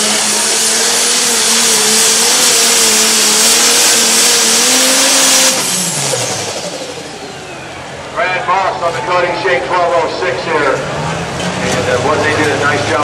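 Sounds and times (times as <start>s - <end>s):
tractor diesel engine at full throttle: 0.0s - 13.0s.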